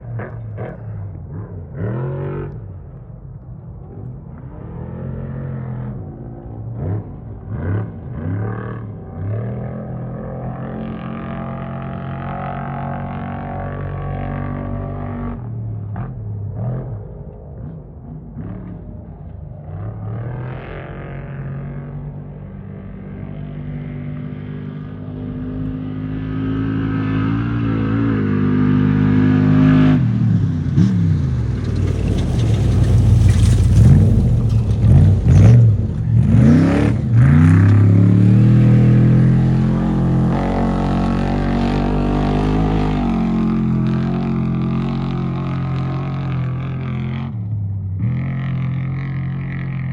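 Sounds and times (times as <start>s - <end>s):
truck engines revving hard: 4.4s - 49.9s.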